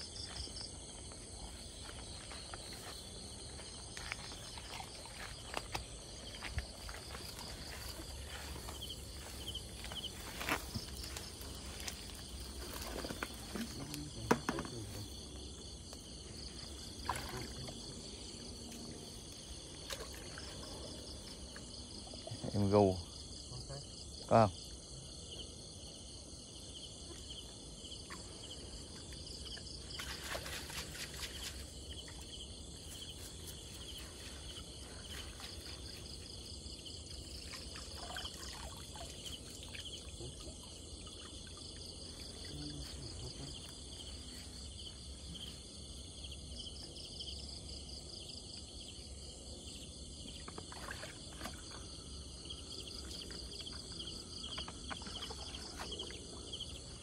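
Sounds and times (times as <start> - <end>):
night insects singing: 0.0 - 57.0.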